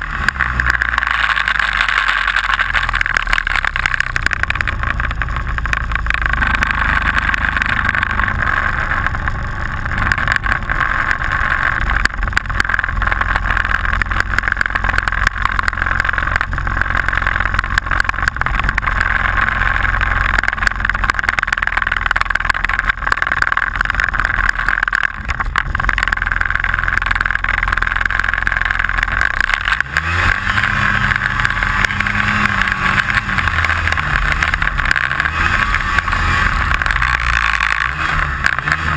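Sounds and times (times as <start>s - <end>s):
constant rattle: 0.0s - 38.9s
snowmobile engine running: 0.0s - 38.9s.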